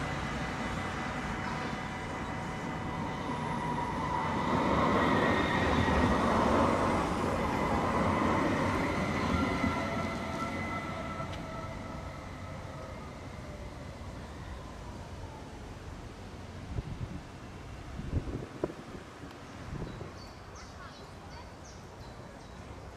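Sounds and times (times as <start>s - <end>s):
tram passing on rails: 0.0s - 22.9s.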